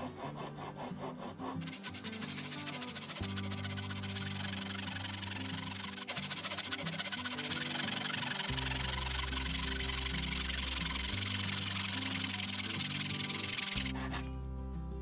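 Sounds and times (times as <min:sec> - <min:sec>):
hand saw cutting wood: 0:00.0 - 0:14.4
background music low held notes: 0:00.0 - 0:15.0.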